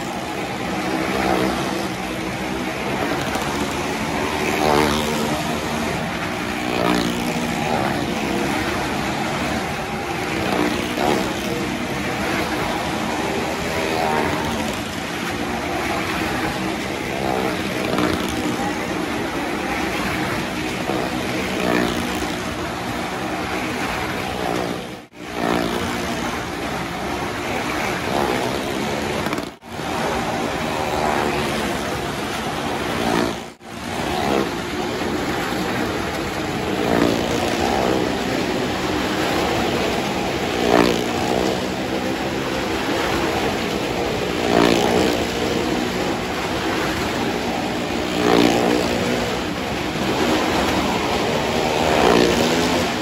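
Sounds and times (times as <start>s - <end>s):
car engine running hard: 0.0s - 53.0s.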